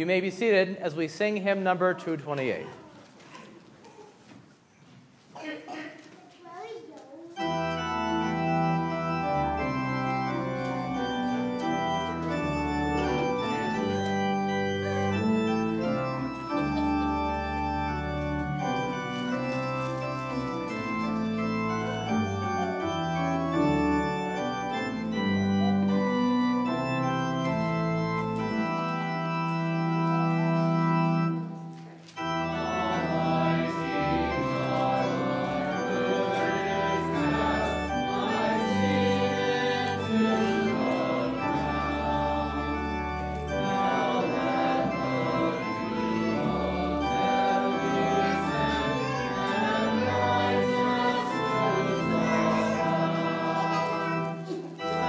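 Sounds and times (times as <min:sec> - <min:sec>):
church organ playing a hymn: 0:00.0 - 0:02.8, 0:07.3 - 0:55.0.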